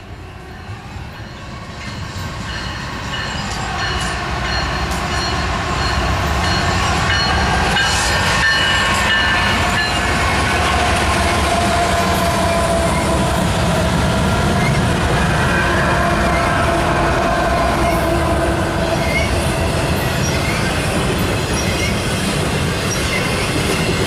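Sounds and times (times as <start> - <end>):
diesel locomotive engine rumble: 0.0 - 24.0
train wheels on rails: 0.0 - 24.0.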